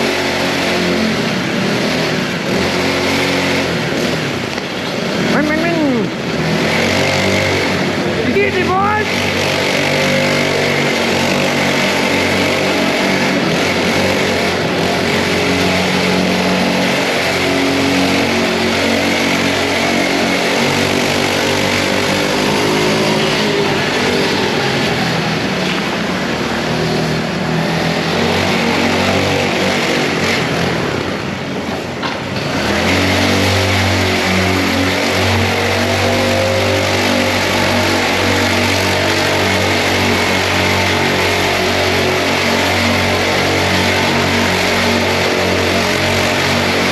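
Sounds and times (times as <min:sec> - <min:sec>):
small engine running: 0:00.0 - 0:46.9.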